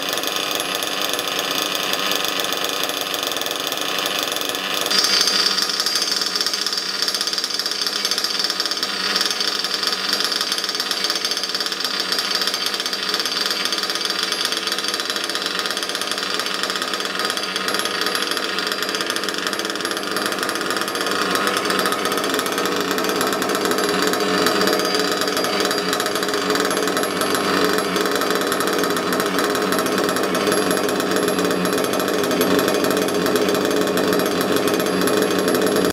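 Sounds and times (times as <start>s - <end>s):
nitro engine running: 0.0s - 35.9s.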